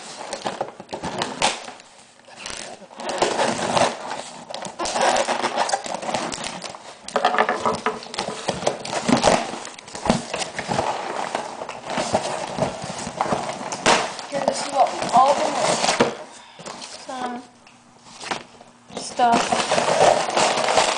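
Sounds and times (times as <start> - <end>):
packaging rustling and crinkling: 0.0 - 17.4, 18.0 - 20.9.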